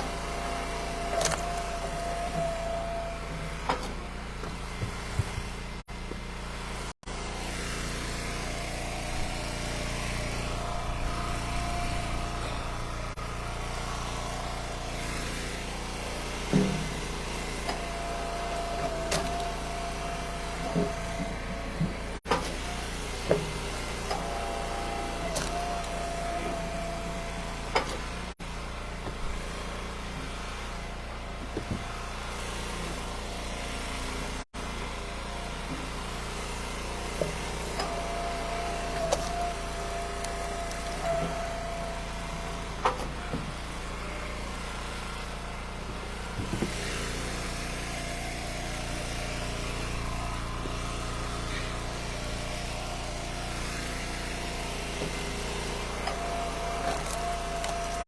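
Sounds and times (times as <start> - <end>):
hydraulic whine: 0.0 - 58.0
wood splitter engine running: 0.0 - 58.0.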